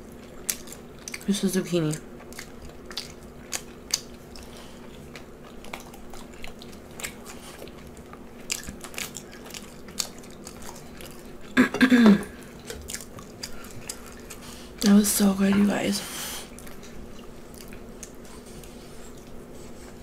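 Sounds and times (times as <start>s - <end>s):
chewing crunchy food: 0.0s - 11.6s, 12.2s - 15.0s, 16.4s - 20.0s.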